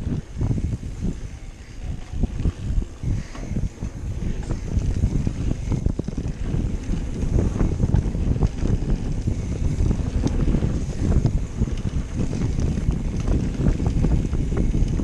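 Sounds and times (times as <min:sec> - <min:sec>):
bike rattling and knocking: 0:00.0 - 0:15.0
bike tyres rolling on dirt: 0:00.0 - 0:15.0
wind buffeting microphone: 0:00.0 - 0:15.0.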